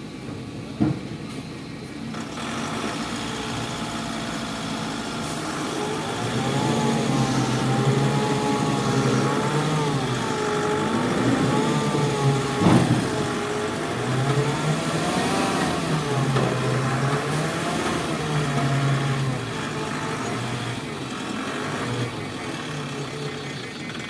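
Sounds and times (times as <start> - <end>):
heavy diesel engine revving: 2.2 - 24.0.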